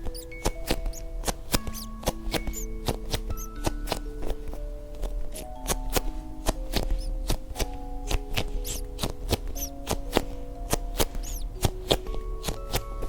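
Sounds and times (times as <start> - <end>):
background music with held notes: 0.0 - 13.0
faint high squeaks: 0.0 - 13.0.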